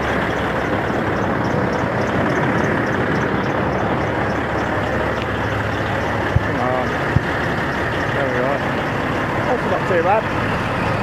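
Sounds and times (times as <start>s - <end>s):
faint regular ticking: 0.0s - 10.5s
diesel truck engine idling: 0.0s - 11.0s.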